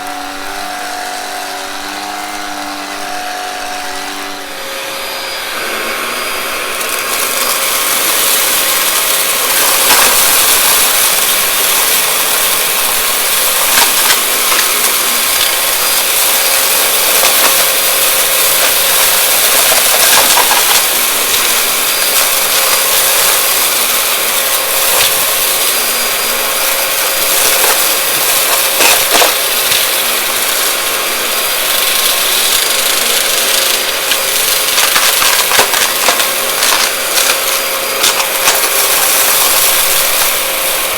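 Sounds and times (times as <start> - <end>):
vacuum cleaner motor whine: 0.0 - 40.9
debris crackling in vacuum: 0.1 - 40.9.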